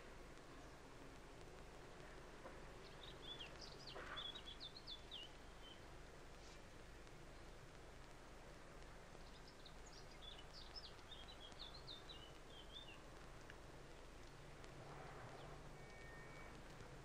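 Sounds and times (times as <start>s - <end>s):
faint birdsong chirps: 0.0s - 17.0s
old film soundtrack hum and hiss: 0.0s - 17.0s.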